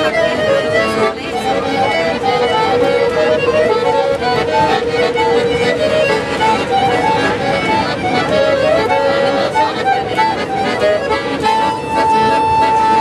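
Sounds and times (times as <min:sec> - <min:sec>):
accordion held low note: 0:00.0 - 0:13.0
accordion melody: 0:00.0 - 0:13.0.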